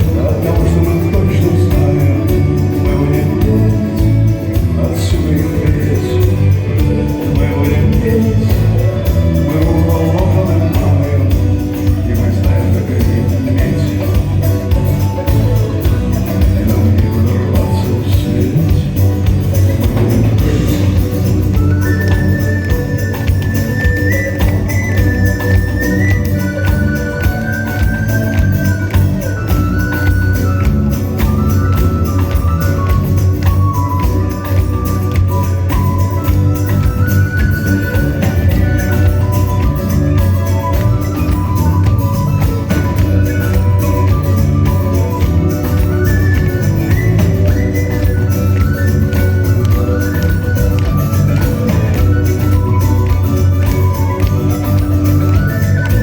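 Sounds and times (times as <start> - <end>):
live rock band playing: 0.0 - 56.0
person singing: 0.0 - 56.0
shaken tambourine: 0.0 - 56.0.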